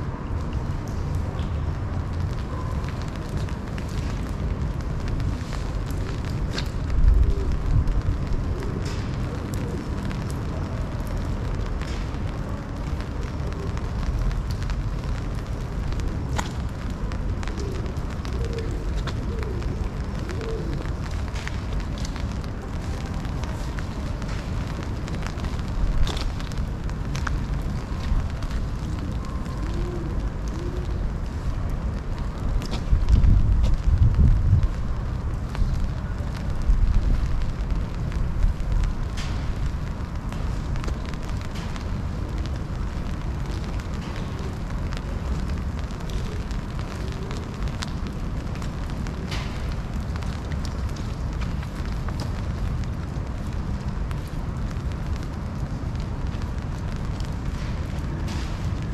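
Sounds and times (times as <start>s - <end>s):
constant low rumble: 0.0s - 58.9s
rain falling: 0.0s - 58.9s.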